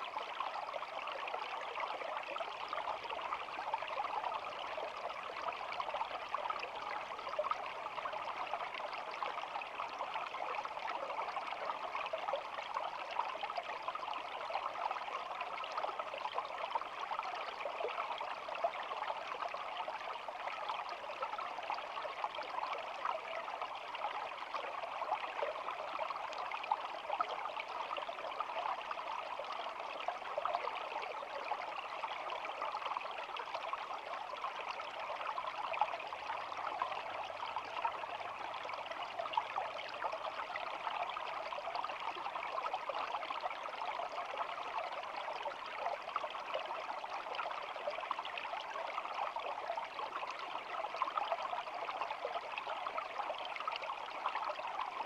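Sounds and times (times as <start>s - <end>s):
shallow stream babbling: 0.0s - 55.0s.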